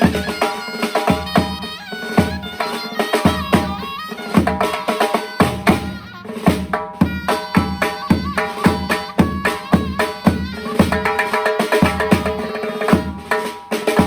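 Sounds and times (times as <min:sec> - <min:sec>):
drum rhythm: 0:00.0 - 0:14.0
shawm playing ornamented melody: 0:00.0 - 0:14.0.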